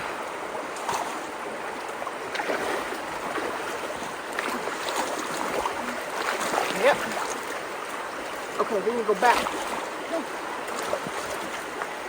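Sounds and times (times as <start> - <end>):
floodwater rushing through culverts: 0.0 - 12.0
water splashes: 0.0 - 12.0.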